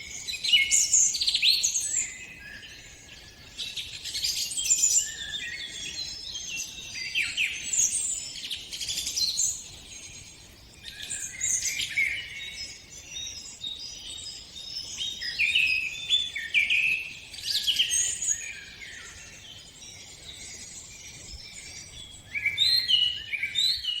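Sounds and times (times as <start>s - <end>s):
forest birds singing: 0.0s - 24.0s.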